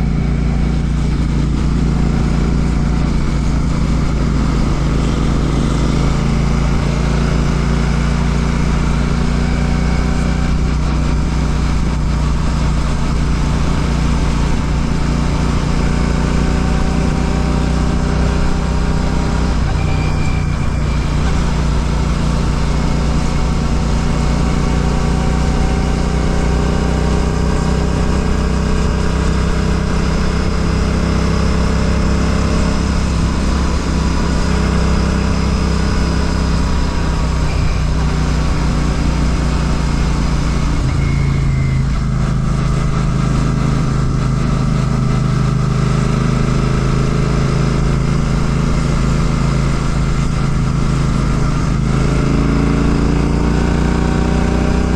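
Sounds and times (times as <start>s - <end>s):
motorcycle engine while riding: 0.0s - 54.9s.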